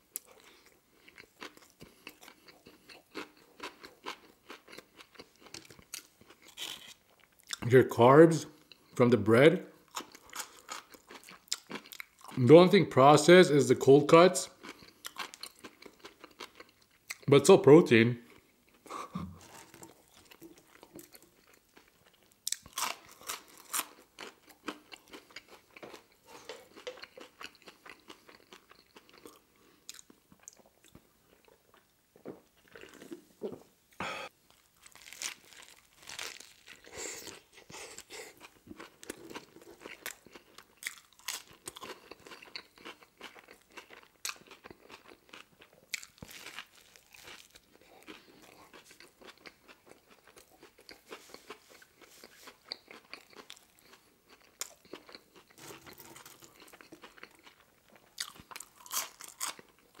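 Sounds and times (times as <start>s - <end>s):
crunching and smacking chewing: 0.1s - 7.6s, 9.9s - 12.4s, 14.5s - 17.3s, 18.3s - 33.6s, 34.5s - 60.0s.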